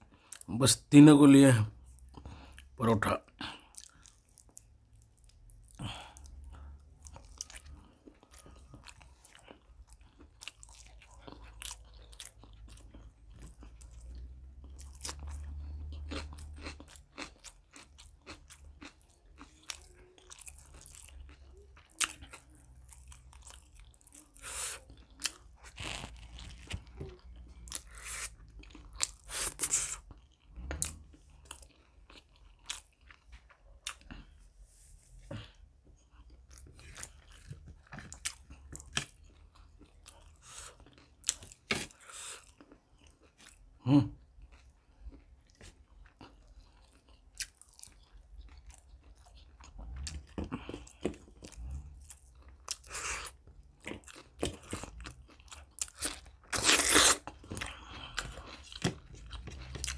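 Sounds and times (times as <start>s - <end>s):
person chewing and smacking: 1.8s - 34.5s, 35.3s - 59.9s.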